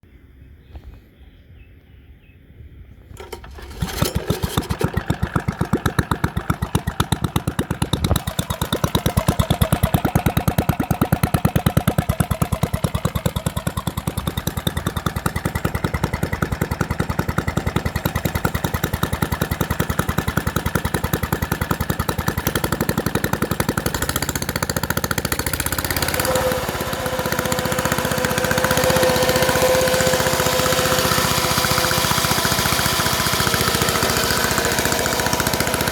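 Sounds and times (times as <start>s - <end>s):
lawnmower engine running: 3.1s - 35.9s.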